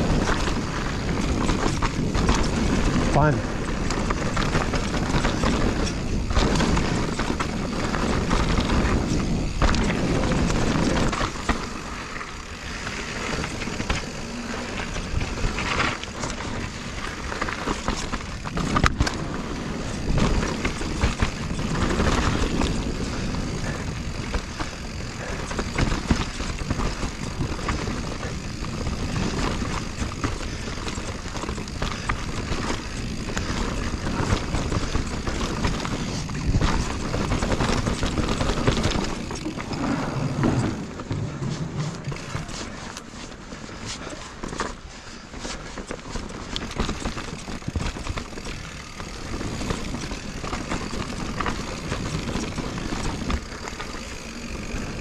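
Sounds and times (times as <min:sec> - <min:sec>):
bike frame rattling and knocking: 0:00.0 - 0:55.0
bike tyres rolling on dirt: 0:00.0 - 0:55.0.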